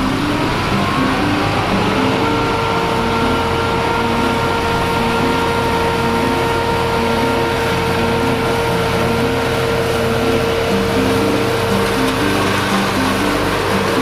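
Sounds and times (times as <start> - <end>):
baling machinery running: 0.0 - 14.0
high mechanical whine: 0.0 - 14.0.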